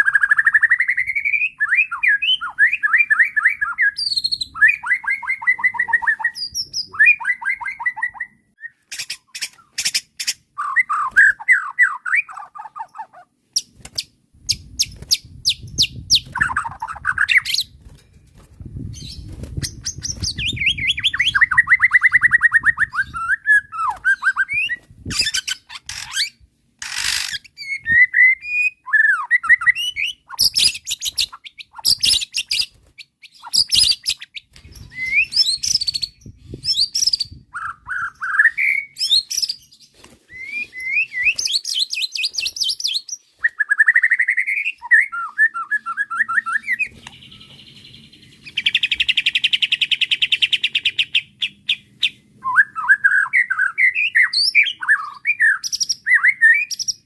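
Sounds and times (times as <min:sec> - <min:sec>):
songbird singing varied song: 0:00.0 - 0:17.9, 0:18.7 - 0:57.0.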